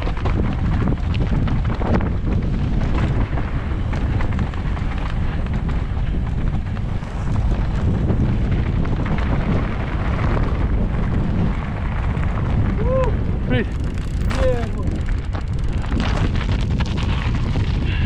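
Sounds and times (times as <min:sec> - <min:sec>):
bike tyres clicking on stones: 0:00.0 - 0:18.0
wind buffeting microphone: 0:00.0 - 0:18.0.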